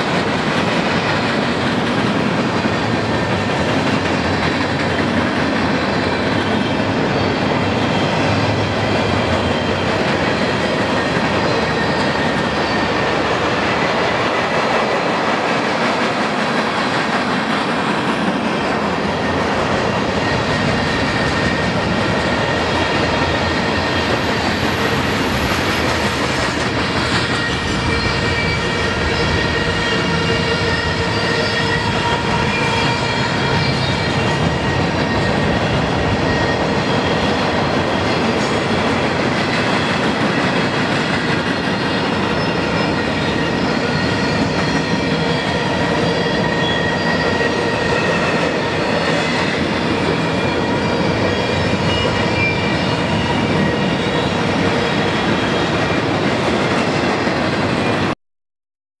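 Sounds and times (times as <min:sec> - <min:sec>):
train wheels rumbling on rail: 0:00.0 - 0:58.2
wheels squealing against rail: 0:03.3 - 0:14.2, 0:15.0 - 0:56.2.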